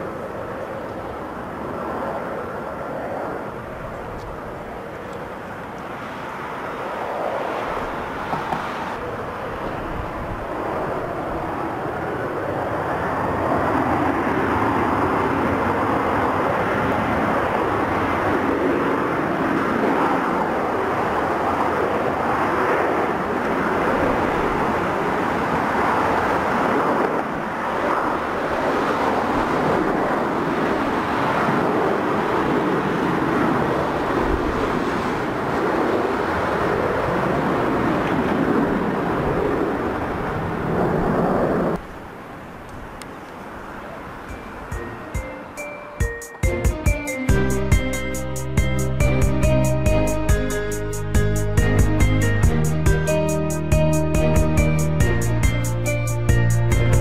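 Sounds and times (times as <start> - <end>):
jet engines at take-off: 0.0 - 45.7.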